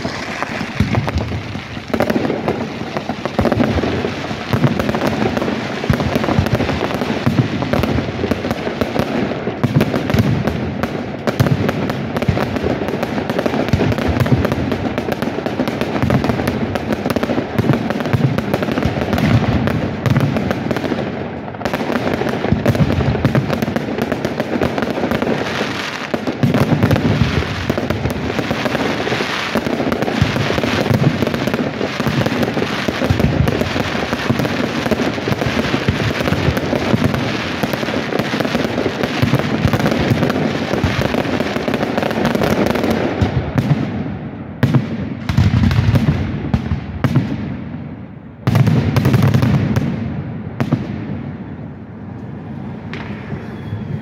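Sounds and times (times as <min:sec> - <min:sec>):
fireworks bursts and crackling: 0:00.0 - 0:54.0.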